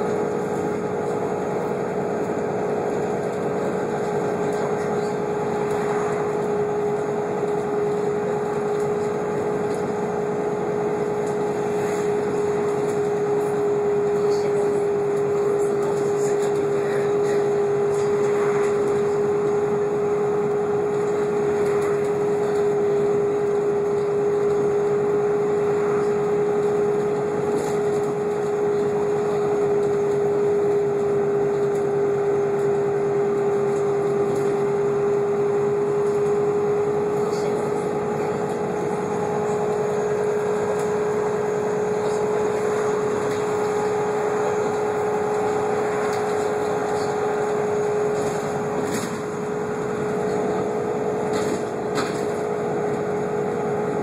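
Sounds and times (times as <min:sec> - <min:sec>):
bus drivetrain whine: 0:00.0 - 0:54.0
engine and road noise: 0:00.0 - 0:54.0.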